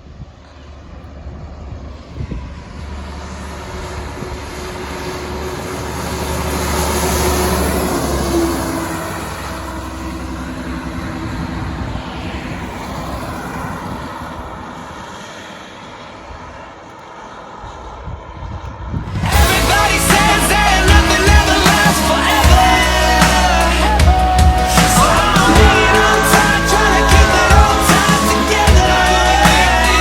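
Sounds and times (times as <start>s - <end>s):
fire engine driving past: 0.0s - 18.0s, 18.8s - 30.0s.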